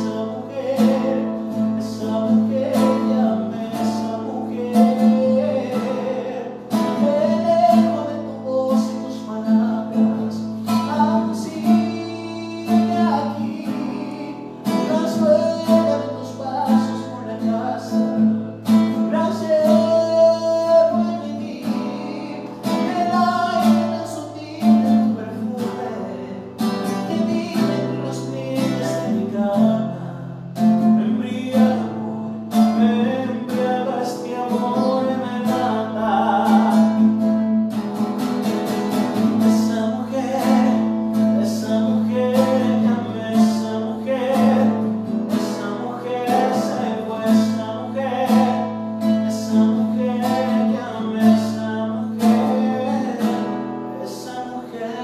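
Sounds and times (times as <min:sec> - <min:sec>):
classical guitar strumming: 0:00.0 - 0:55.0
man singing: 0:00.0 - 0:55.0.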